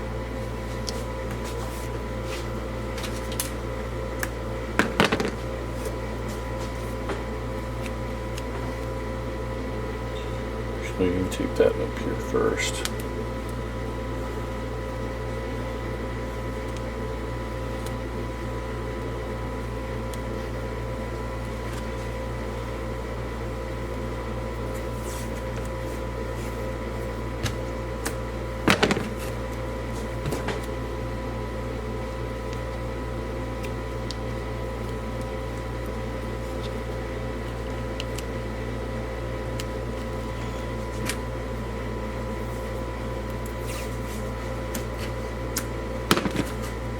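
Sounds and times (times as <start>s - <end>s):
electrical room hum with tones: 0.0s - 46.9s.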